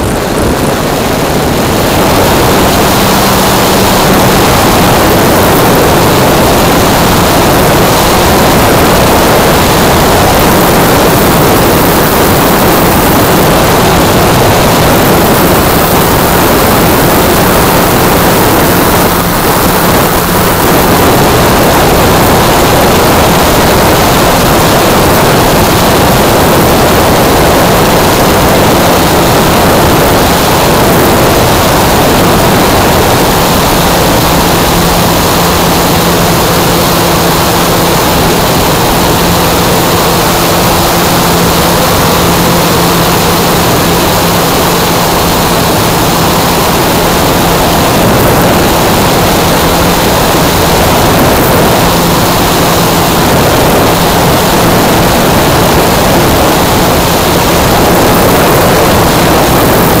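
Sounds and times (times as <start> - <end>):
propeller wash and airflow: 0.0 - 60.0.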